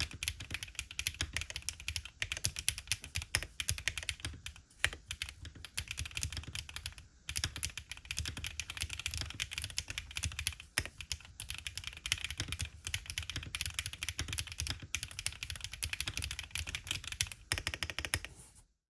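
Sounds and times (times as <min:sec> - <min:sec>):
mechanical keyboard typing: 0:00.0 - 0:18.4.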